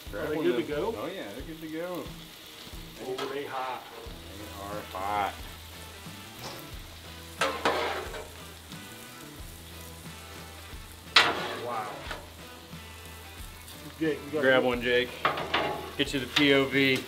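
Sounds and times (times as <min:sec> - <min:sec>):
tortillas sizzling on griddle: 0:00.0 - 0:17.0.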